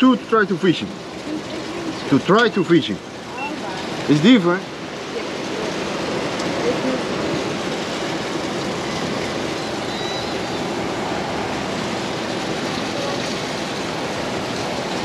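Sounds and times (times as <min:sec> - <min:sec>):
seaside rushing ambience: 0:00.0 - 0:15.0.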